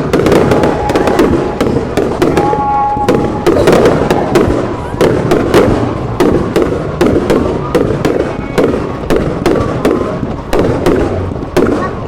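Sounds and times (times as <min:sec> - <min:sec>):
fireworks banging: 0:00.0 - 0:12.0
fireworks crackling: 0:00.0 - 0:12.0.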